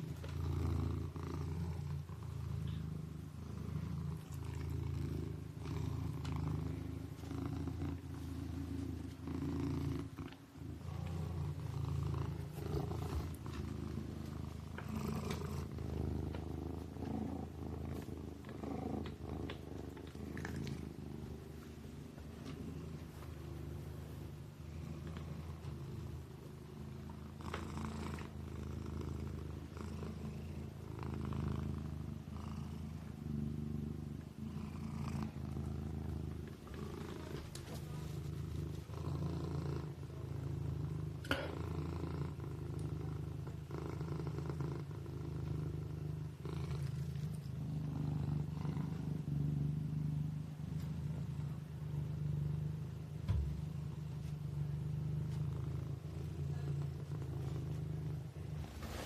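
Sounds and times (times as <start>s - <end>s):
kitten purring: 0.0s - 59.0s.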